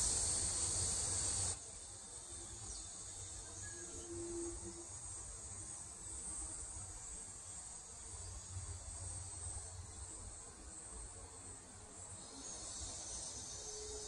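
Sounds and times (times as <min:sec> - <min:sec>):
chorus of insects: 0:00.0 - 0:14.0.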